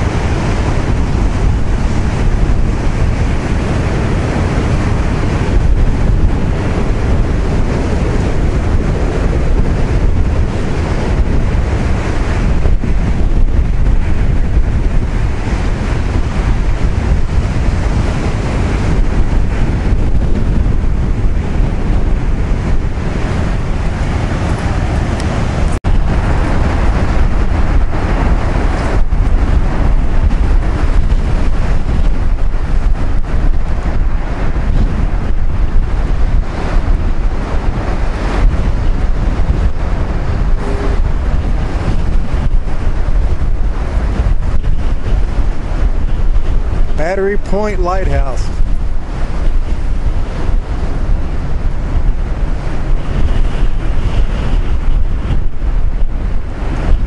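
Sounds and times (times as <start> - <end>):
surf breaking on rocky shore: 0.0 - 57.0
wind buffeting microphone: 0.0 - 57.0.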